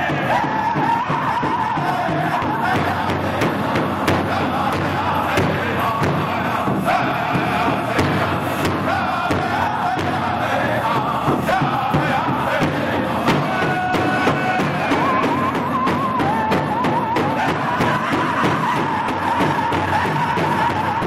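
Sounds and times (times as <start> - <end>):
large drum beating: 0.0 - 21.0
men singing in unison: 0.0 - 21.0.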